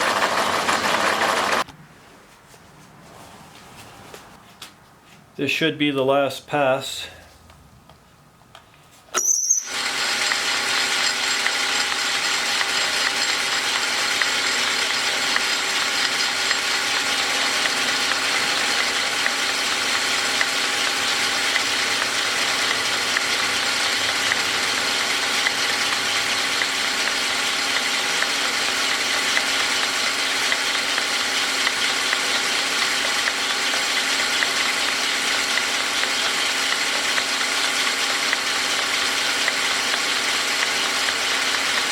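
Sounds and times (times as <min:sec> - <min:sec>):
metal lathe gears whirring: 0:00.0 - 0:01.6, 0:09.2 - 0:41.9.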